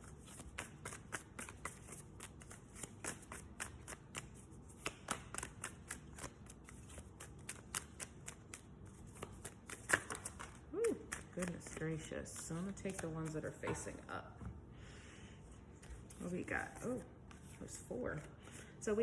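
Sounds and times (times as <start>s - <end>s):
cards being shuffled: 0.0s - 14.0s, 15.7s - 18.6s.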